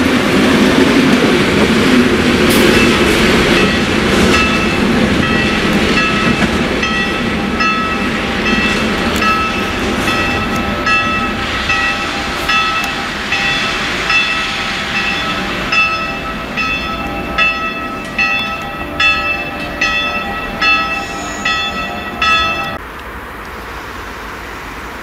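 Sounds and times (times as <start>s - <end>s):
distant diesel locomotive rumble: 0.0s - 25.0s
bell tolling: 2.5s - 22.8s.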